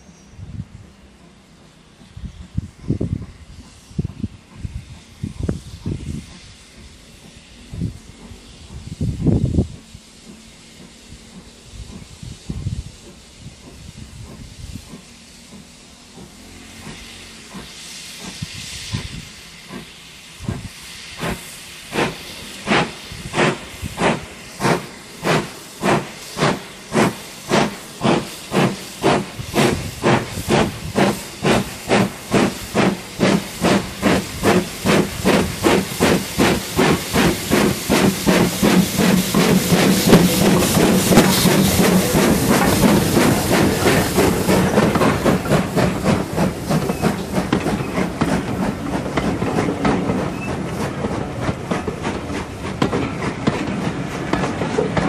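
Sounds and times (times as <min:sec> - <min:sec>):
steam hiss: 0:00.0 - 0:55.0
steam locomotive chuffing: 0:00.0 - 0:55.0
train wheels running noise: 0:00.0 - 0:55.0.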